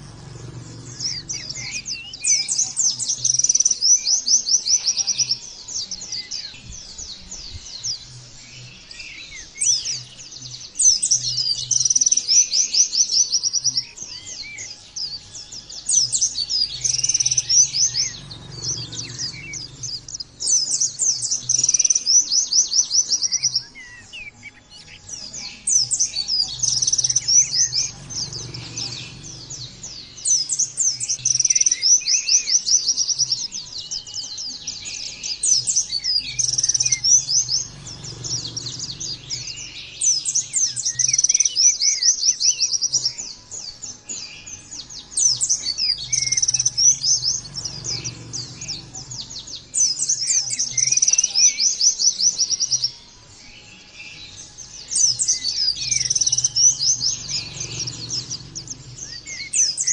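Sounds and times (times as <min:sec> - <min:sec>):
small bird twittering song: 0:00.0 - 0:59.9.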